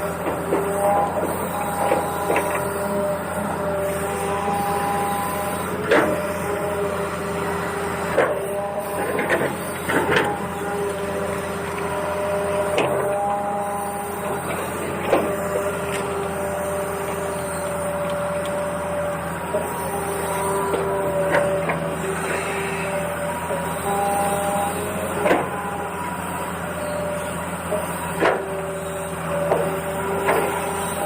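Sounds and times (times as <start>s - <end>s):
small electric motors whining: 0.0s - 31.0s.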